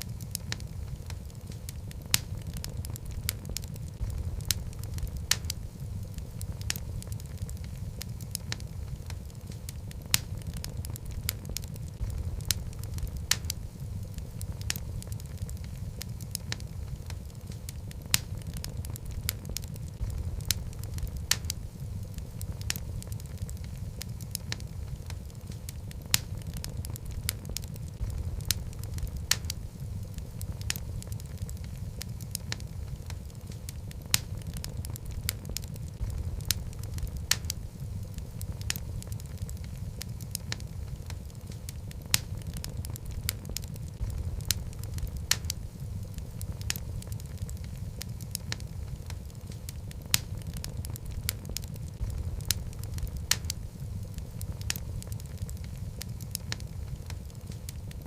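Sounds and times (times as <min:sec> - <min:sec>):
logs crackling and popping: 0:00.0 - 0:58.0
low rumble of flame: 0:00.0 - 0:58.0.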